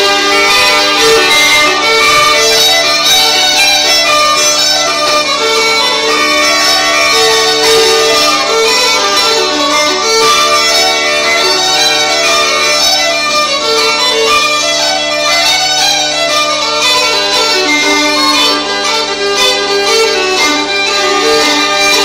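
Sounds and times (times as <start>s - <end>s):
bagpipes playing: 0.0s - 22.0s
fiddle playing dance tune: 0.0s - 22.0s
low bagpipe drone: 0.0s - 22.0s.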